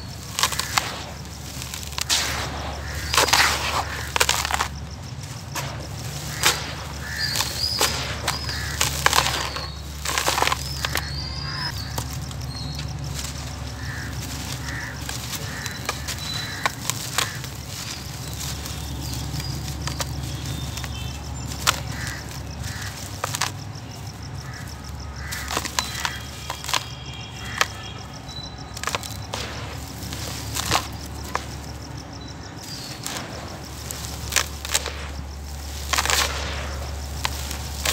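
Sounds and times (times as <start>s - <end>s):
dirt crunching by hand: 0.0s - 37.9s
grit trickling: 0.0s - 37.9s.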